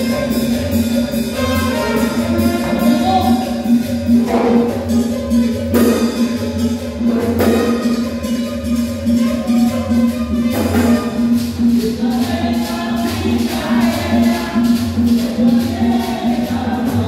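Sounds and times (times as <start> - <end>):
latin dance music: 0.0 - 17.0.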